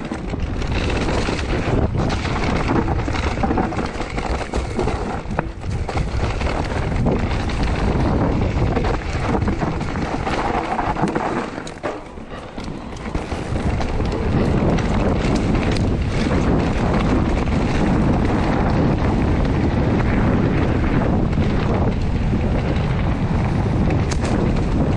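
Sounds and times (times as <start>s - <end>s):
electric mountain bike on rough ground: 0.0s - 24.9s
wind buffeting microphone: 0.0s - 24.9s.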